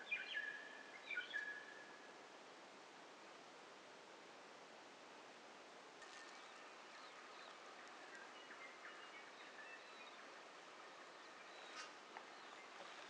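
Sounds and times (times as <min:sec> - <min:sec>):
steady bush hiss: 0:00.0 - 0:13.0.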